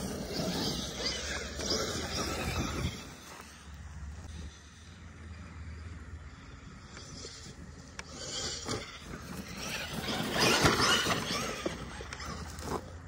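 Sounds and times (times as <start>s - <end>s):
toy truck motor and gear whine: 0.0s - 13.0s
tyre and chassis noise: 0.0s - 13.0s.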